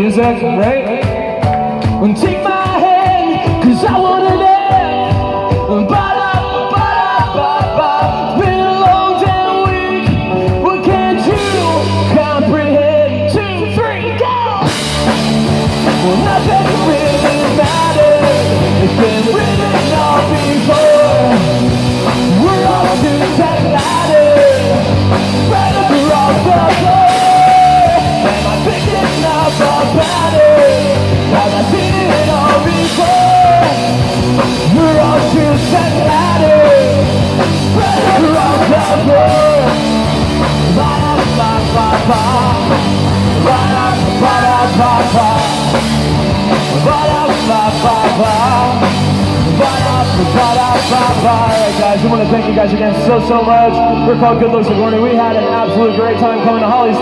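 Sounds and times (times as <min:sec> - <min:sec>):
drum kit with cymbals: 0:00.0 - 0:52.8
bass guitar: 0:00.0 - 0:57.0
electric guitars: 0:00.0 - 0:57.0
man singing: 0:00.0 - 0:57.0.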